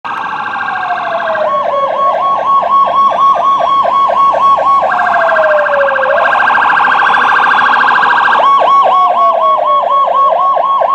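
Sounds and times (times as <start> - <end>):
rapidly pulsing siren tone: 0.1 - 10.9
siren wailing and yelping: 0.1 - 10.9.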